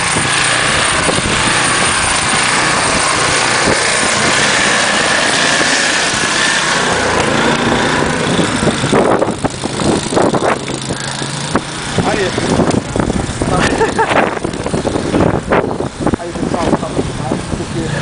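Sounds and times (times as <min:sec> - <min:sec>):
snowblower engine running: 0:00.0 - 0:18.0.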